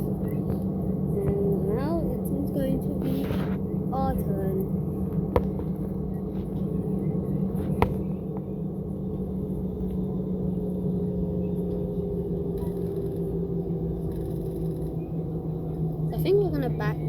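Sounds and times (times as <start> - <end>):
aircraft cabin engine drone: 0.0 - 17.0.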